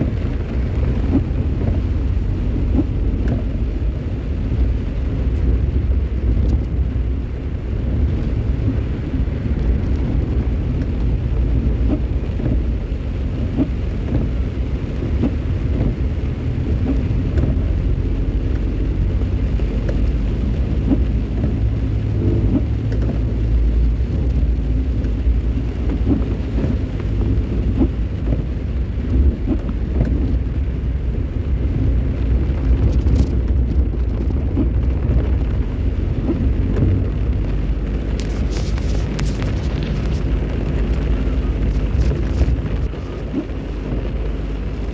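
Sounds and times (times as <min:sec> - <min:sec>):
rain: 0:00.0 - 0:44.9
vehicle engine and road noise: 0:00.0 - 0:44.9.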